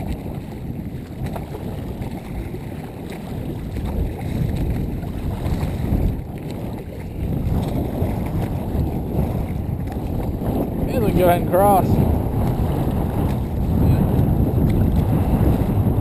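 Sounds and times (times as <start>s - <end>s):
waves slapping plastic hull: 0.0s - 16.0s
wind rumbling on microphone: 0.0s - 16.0s.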